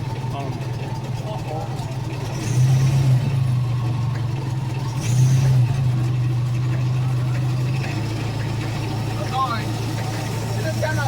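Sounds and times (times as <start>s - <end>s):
miniature train engine drone: 0.0s - 11.0s.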